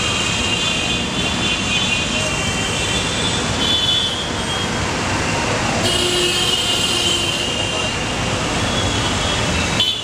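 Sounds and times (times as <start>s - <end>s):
busy road traffic: 0.0s - 10.0s.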